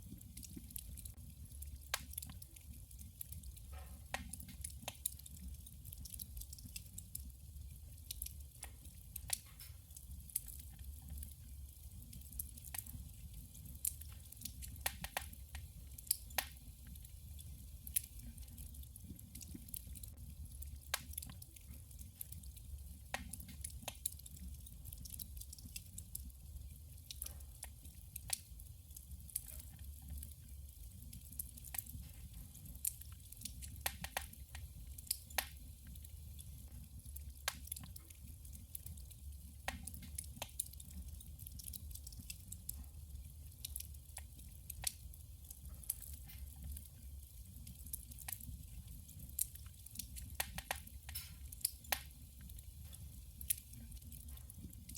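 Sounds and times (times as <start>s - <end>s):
low rumble of fire: 0.0s - 54.9s
wood fire crackling: 0.0s - 54.9s.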